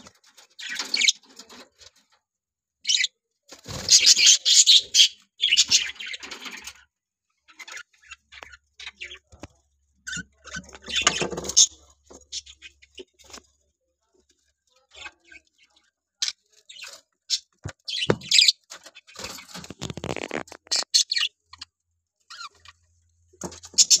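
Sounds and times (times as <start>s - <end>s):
budgerigars chirping and chattering: 0.4s - 1.7s, 2.9s - 6.9s, 7.5s - 13.4s, 14.9s - 21.7s, 22.3s - 22.8s, 23.4s - 24.0s.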